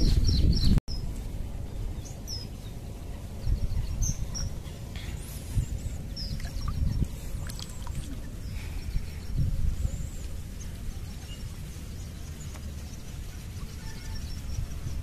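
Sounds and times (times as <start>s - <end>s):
low uneven rumble: 0.0s - 15.0s
small birds chirping: 0.0s - 15.0s.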